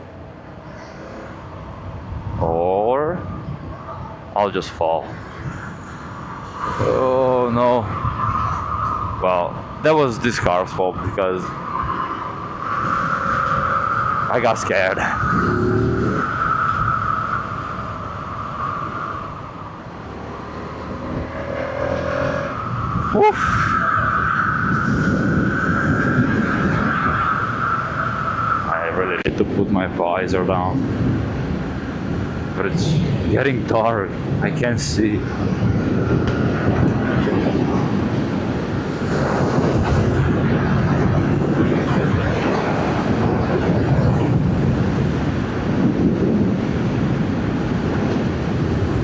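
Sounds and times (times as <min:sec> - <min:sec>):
wind noise: 0:00.0 - 0:49.0.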